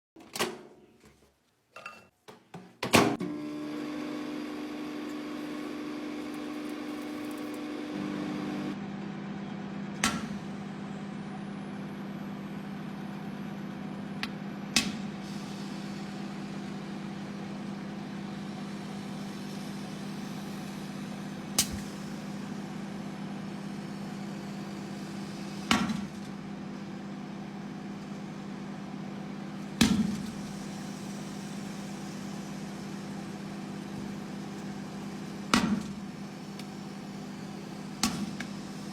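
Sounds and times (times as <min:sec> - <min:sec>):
microwave oven humming: 0:03.1 - 0:38.9.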